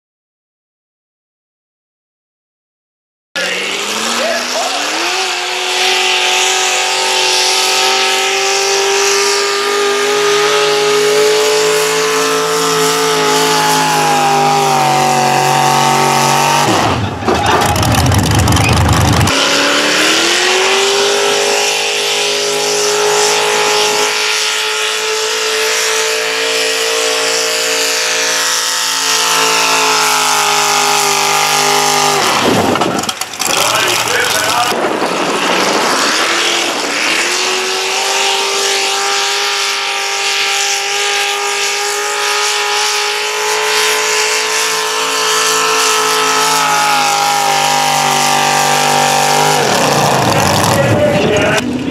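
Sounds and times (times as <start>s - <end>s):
tractor engine idling and revving: 3.4s - 51.9s.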